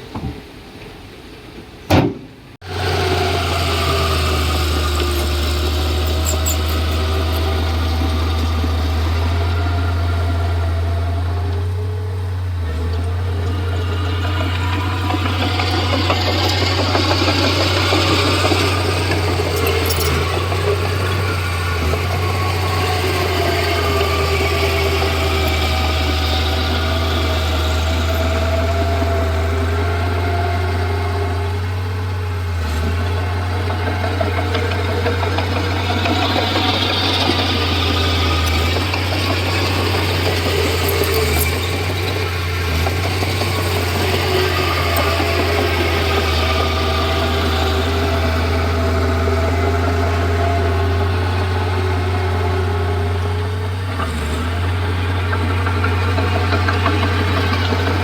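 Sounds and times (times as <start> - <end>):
bulldozer diesel engine droning: 2.6 - 58.0.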